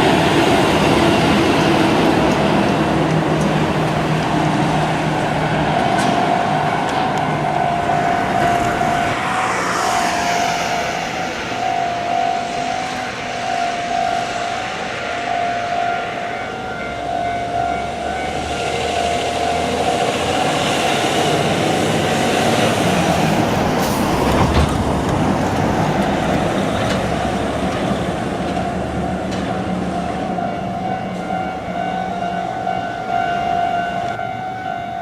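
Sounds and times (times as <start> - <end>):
truck engine and tyre noise: 0.0 - 35.0
level-crossing warning bell ringing: 3.7 - 23.6, 26.5 - 35.0.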